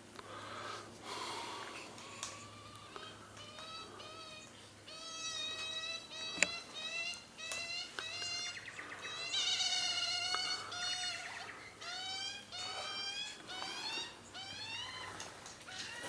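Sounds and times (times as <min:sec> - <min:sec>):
birds giving meow-like calls: 0:02.0 - 0:16.0.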